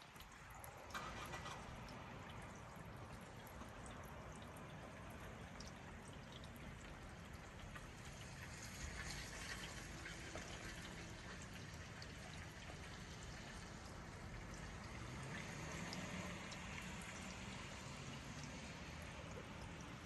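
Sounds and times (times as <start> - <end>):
rain falling and running water: 0.0 - 20.0
raindrops ticking: 0.0 - 20.0.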